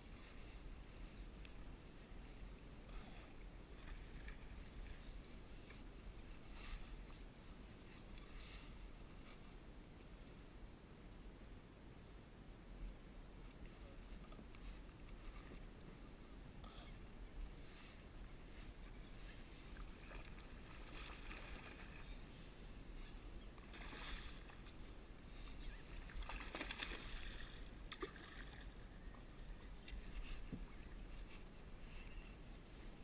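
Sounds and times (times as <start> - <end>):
water lapping around a kayak: 0.0 - 10.2, 13.4 - 33.0.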